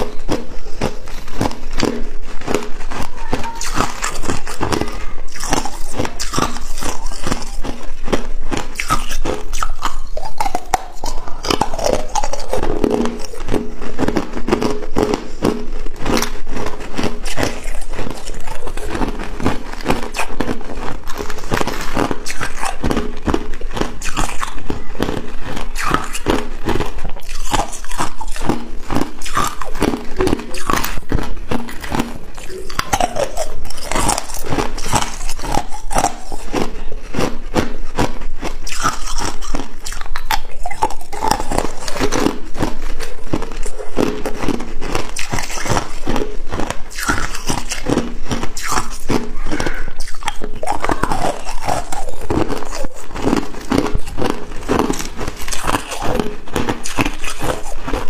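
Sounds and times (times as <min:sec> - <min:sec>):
crushed ice being chewed: 0:00.0 - 0:58.0.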